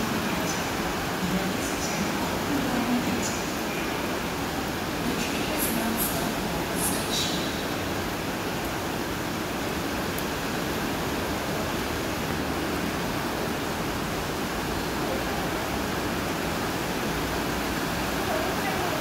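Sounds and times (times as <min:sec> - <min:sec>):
subway platform rushing ambience: 0:00.0 - 0:19.0.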